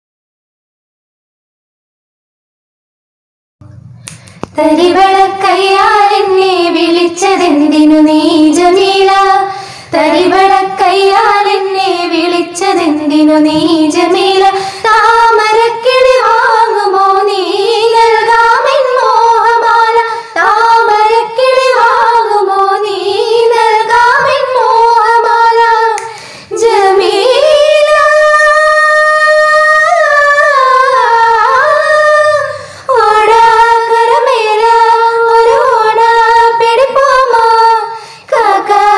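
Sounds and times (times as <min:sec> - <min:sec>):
women singing in unison: 0:04.5 - 0:38.9.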